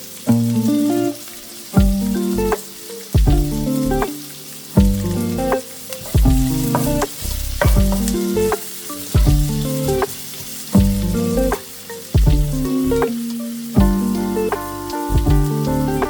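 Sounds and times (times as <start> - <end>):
food sizzling in hot oil: 0.0 - 16.0
music with deep beat: 1.8 - 16.0.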